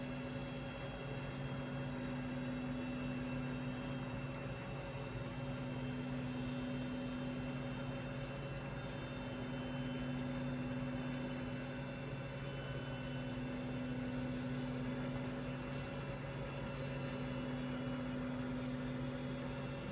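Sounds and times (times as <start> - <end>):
electrical hum: 0.0 - 19.9.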